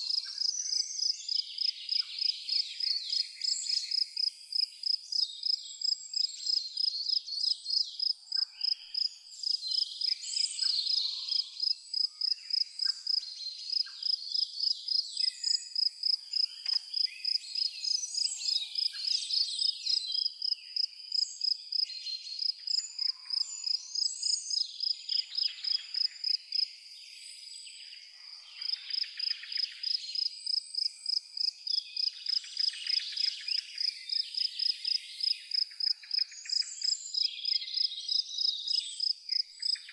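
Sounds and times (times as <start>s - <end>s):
cricket chirping: 0.0s - 27.6s, 28.6s - 39.9s
songbirds twittering and singing: 0.0s - 39.9s.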